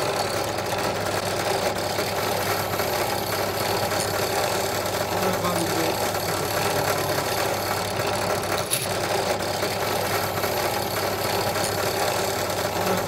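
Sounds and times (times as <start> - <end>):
drill press running: 0.0 - 13.0.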